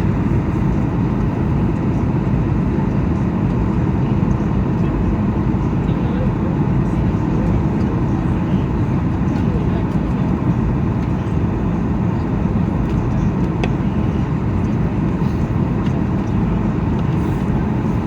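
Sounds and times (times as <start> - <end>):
airplane cabin rumble: 0.0 - 18.0.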